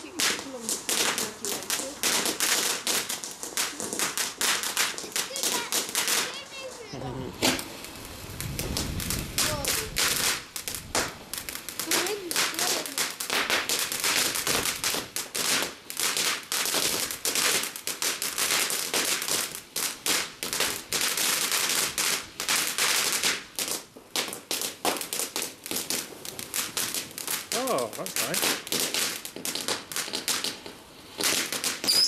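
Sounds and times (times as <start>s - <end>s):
firework fountain crackling: 0.0s - 32.0s.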